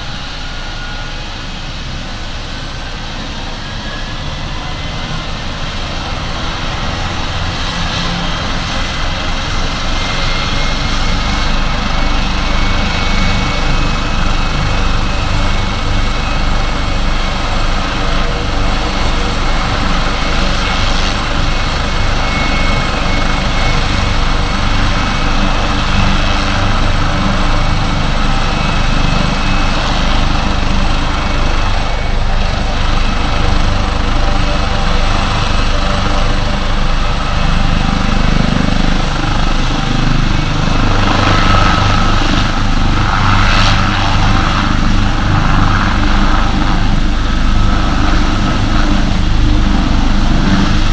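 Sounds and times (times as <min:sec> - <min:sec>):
helicopter turbine whine and rotor: 0:00.0 - 0:50.9.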